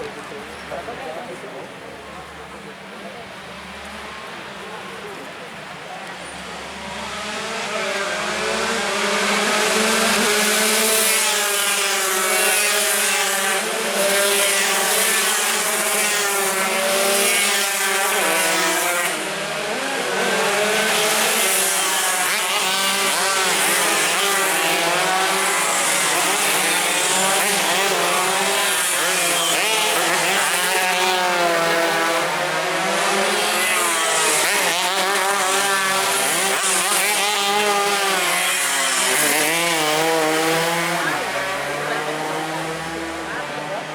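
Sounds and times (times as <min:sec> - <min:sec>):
motorcycles racing and revving: 0:00.0 - 0:43.9.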